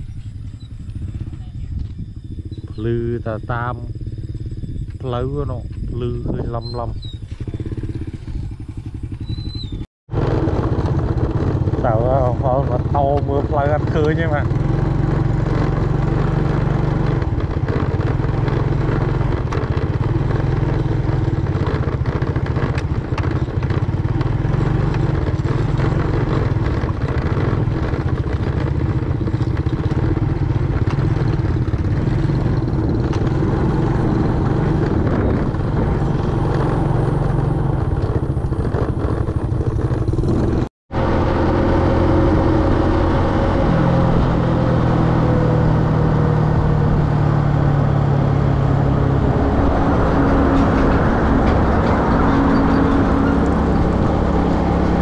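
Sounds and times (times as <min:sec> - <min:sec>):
motorbike engine running: 0:00.0 - 0:55.0
road noise: 0:00.0 - 0:55.0.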